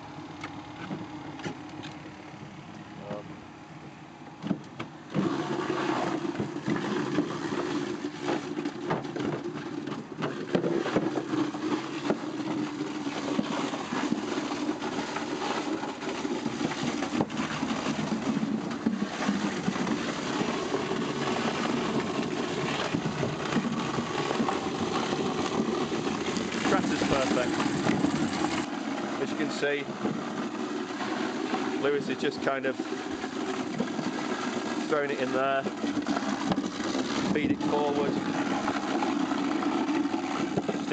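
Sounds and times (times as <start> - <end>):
apple scratter humming: 0.0 - 40.9.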